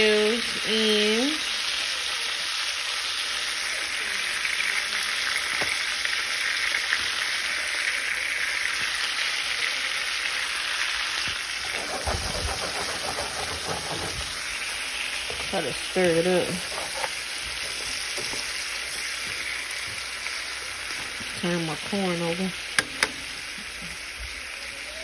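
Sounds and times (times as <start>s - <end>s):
butter sauce sizzling in skillet: 0.0s - 25.0s.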